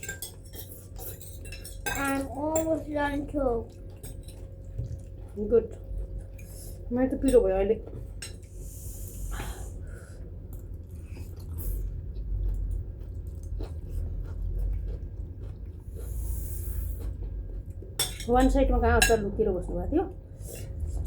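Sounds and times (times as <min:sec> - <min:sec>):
chewing and eating: 0:00.0 - 0:18.4.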